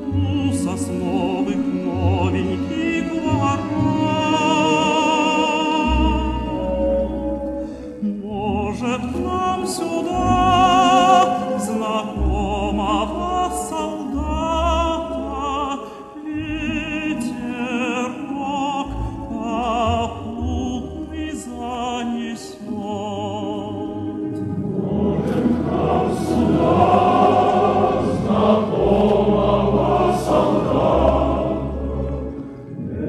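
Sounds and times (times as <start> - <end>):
person singing with vibrato: 0.0 - 32.0
orchestral accompaniment: 0.0 - 33.0.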